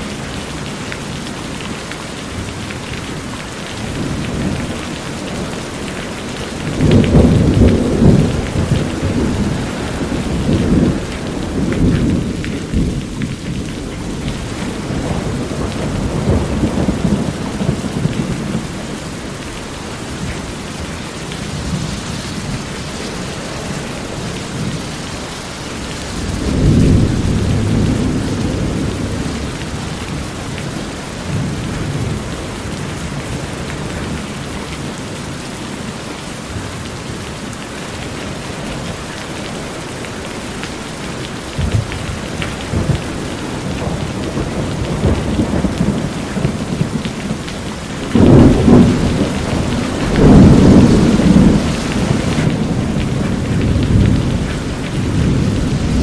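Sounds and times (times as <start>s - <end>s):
rain on a metal roof: 0.0s - 56.0s
water running off roof: 0.0s - 56.0s
thunder rumbling: 2.4s - 34.9s, 41.2s - 56.0s.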